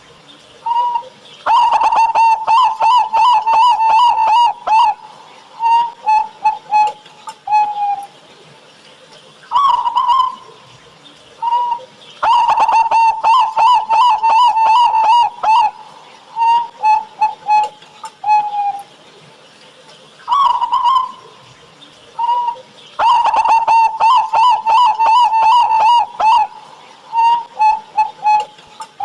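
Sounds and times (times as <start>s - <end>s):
zebra dove cooing: 0.7s - 8.1s, 9.5s - 10.6s, 11.4s - 18.8s, 20.3s - 21.4s, 22.2s - 29.0s.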